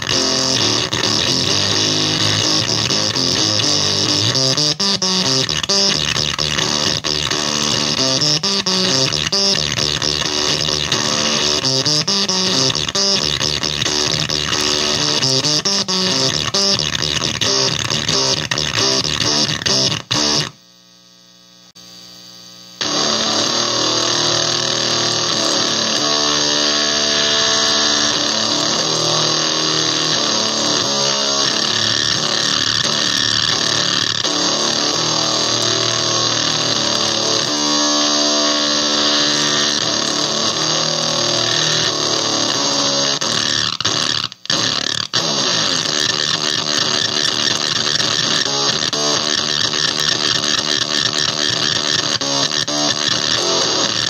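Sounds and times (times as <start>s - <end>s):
electric guitar notes: 0.0s - 20.6s, 22.8s - 54.0s
crackling guitar fuzz: 0.0s - 54.0s.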